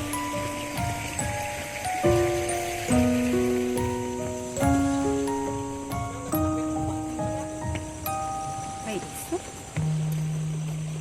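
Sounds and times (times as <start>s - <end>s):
soft instrumental chords: 0.0s - 11.0s.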